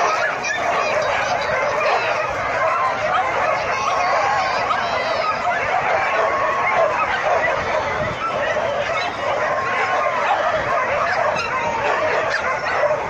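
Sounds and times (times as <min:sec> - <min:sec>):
many dogs barking and yelping: 0:00.0 - 0:13.0.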